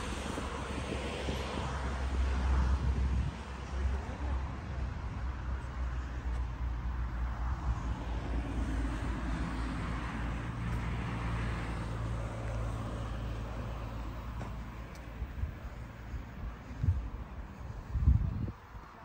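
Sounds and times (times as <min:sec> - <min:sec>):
vehicle passing by: 0:00.0 - 0:18.5
road traffic rumble: 0:00.0 - 0:19.0.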